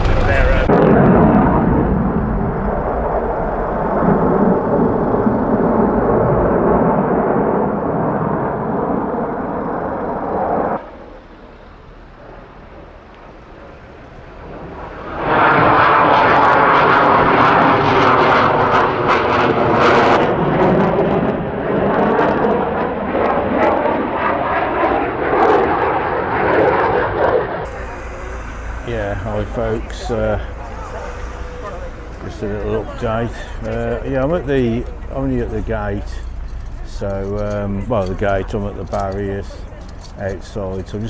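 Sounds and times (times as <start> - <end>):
aircraft engines flying low: 0.0 - 41.0.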